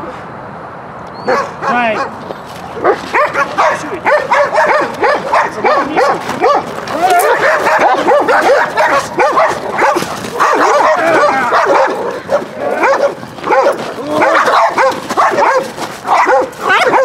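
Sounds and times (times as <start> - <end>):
dogs barking and yelping: 1.1 - 17.0.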